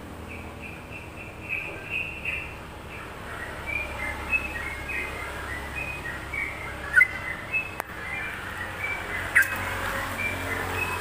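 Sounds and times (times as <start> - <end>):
bulbul singing whistled chirps: 0.2 - 9.6.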